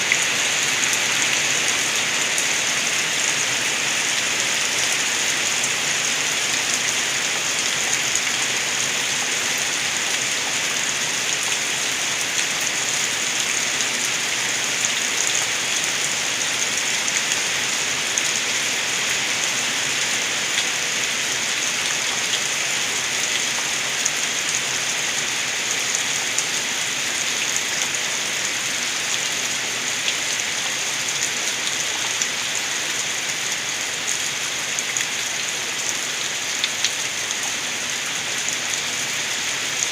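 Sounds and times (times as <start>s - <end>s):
hiss of falling rain: 0.0s - 39.9s
rainwater gurgling and splashing: 0.0s - 39.9s.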